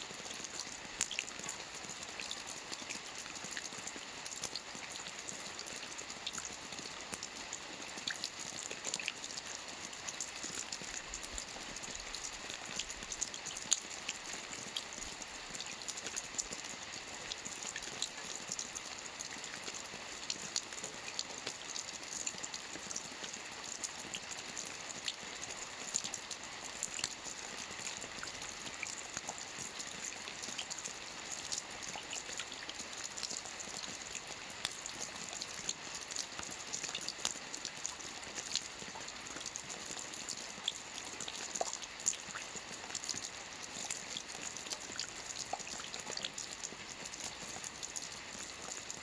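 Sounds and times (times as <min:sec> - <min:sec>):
soft rain on a roof: 0:00.0 - 0:49.0.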